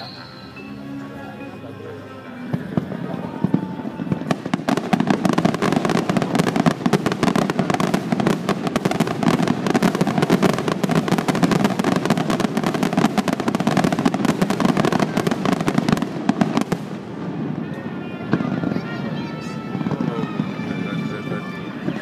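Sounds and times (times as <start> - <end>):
fireworks bangs and crackles: 2.4 - 22.0.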